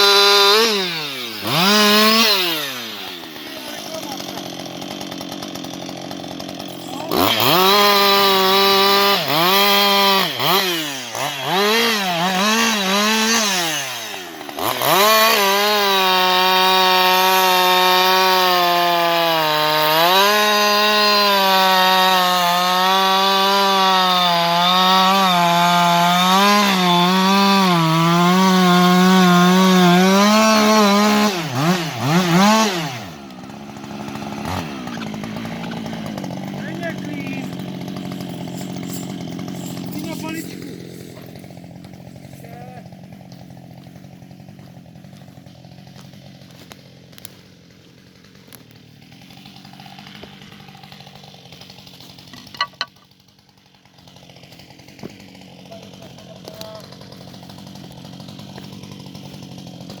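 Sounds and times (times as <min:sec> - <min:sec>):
chainsaw revving and cutting wood: 0:00.0 - 1:00.0.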